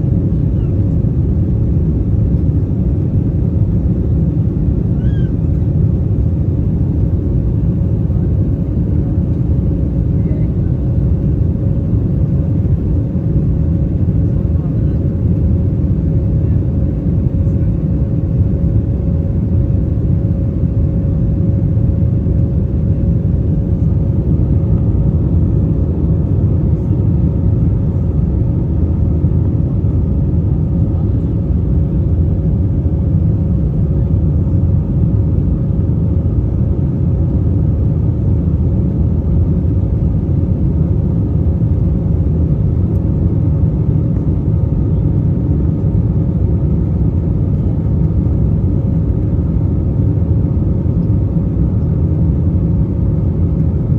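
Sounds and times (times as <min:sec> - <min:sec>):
airliner cabin rumble: 0:00.0 - 0:53.9
steady humming tone: 0:00.0 - 0:53.9.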